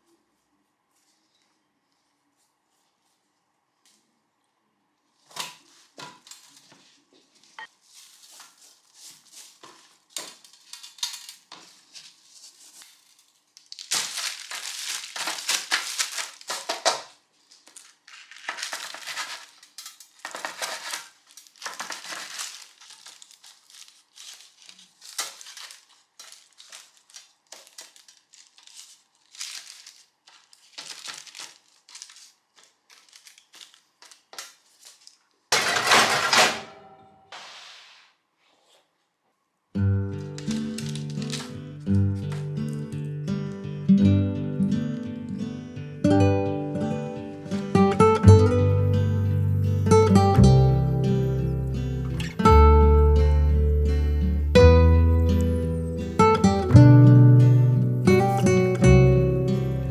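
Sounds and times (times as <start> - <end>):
crinkling and rustling: 0.0 - 4.2, 5.0 - 39.3, 40.2 - 42.8, 48.8 - 59.9.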